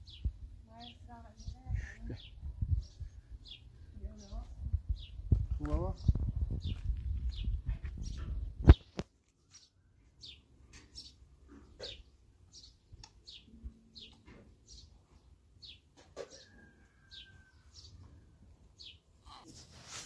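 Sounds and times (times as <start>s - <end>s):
bird chirping: 0.0s - 19.5s.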